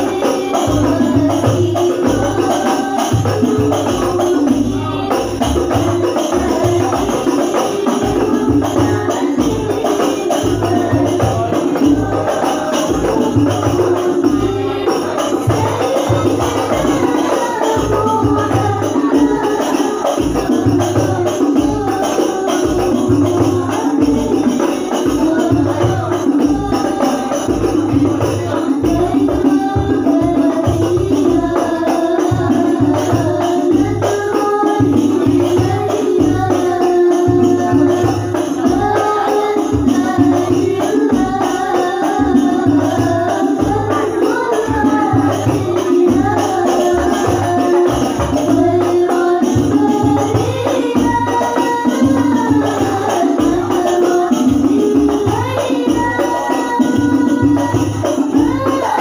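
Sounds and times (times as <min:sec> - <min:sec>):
frame drums beating: 0:00.0 - 0:59.0
voices singing: 0:00.0 - 0:59.0.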